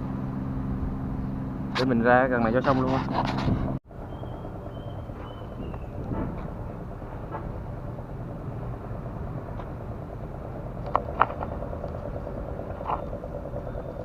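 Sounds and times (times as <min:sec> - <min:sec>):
motorcycle engine buzzing: 0:00.0 - 0:14.0
road traffic rumble: 0:00.0 - 0:14.0.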